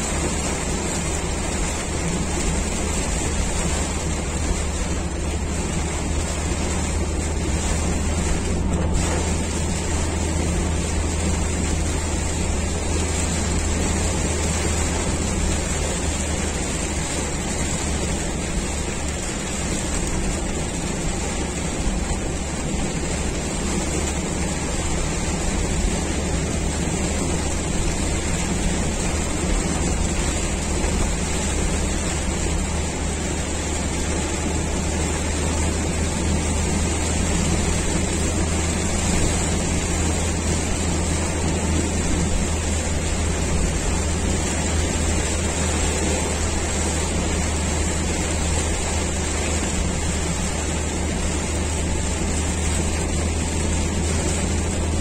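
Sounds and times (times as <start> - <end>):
rain and road spray hiss: 0.0 - 55.0
tyre and engine rumble: 0.0 - 55.0.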